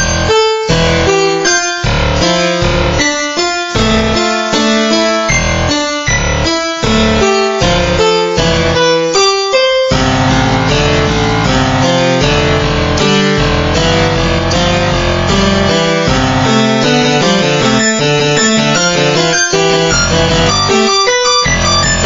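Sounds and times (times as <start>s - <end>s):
synthesized keyboard chords: 0.0s - 22.0s.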